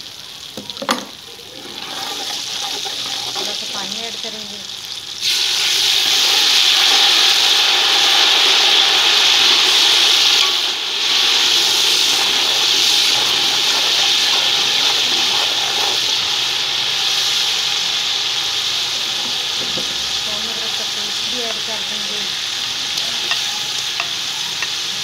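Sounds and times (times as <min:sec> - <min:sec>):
loud steady sizzle: 0:00.0 - 0:25.0
water poured into hot oil: 0:00.0 - 0:25.0.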